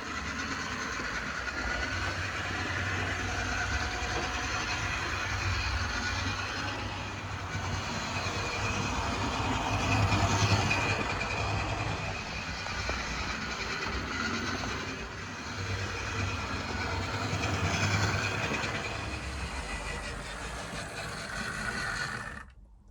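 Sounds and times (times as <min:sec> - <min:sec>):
model train motor humming: 0:00.0 - 0:22.5
wheels clicking over rails: 0:00.0 - 0:22.5.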